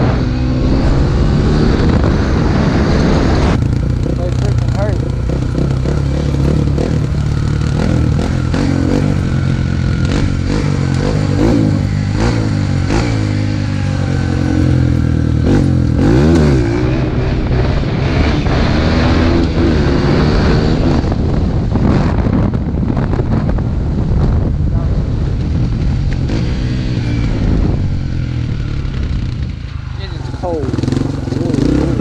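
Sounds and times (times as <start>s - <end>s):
dirt bike engine revving: 0.0s - 23.1s, 25.9s - 32.0s.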